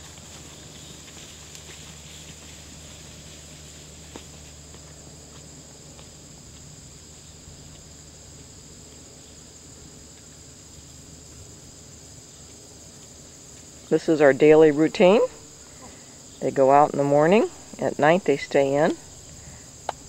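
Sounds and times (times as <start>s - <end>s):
insects chirring in grass: 0.0s - 20.0s.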